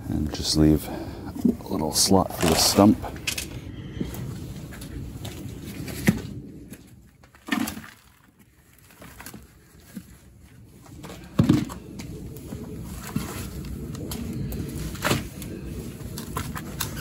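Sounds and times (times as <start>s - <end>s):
potting mix rustling: 1.4s - 3.3s, 4.1s - 17.0s.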